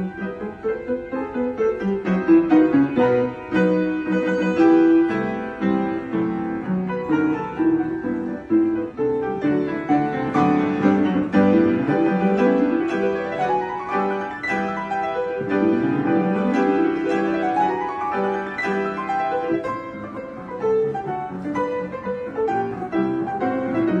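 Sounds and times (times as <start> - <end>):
piano duet: 0.0 - 24.0.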